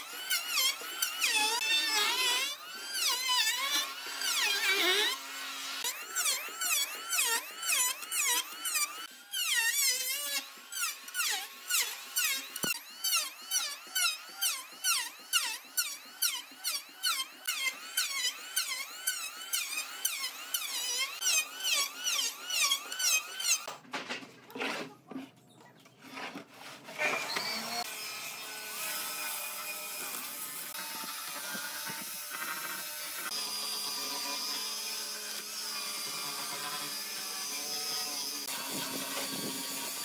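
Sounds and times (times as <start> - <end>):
electric planer cutting wood: 0.0 - 23.7, 26.9 - 40.0.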